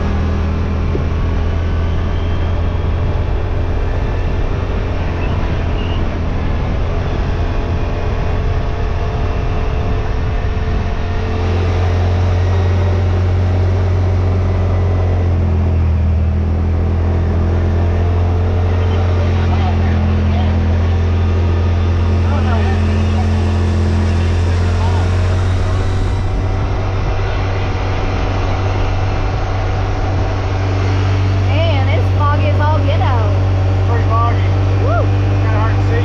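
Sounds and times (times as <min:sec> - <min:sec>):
vehicle engine low drone: 0:00.0 - 0:36.0.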